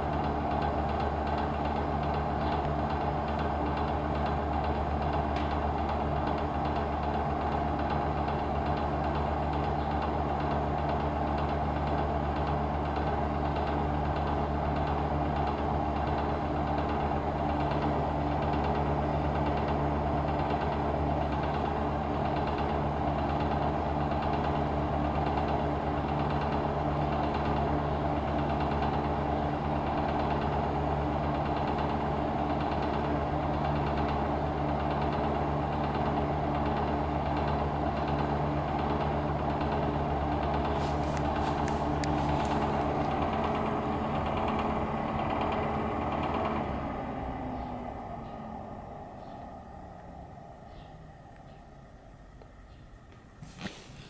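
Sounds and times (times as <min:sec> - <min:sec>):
heater steady hum: 0:00.0 - 0:54.0.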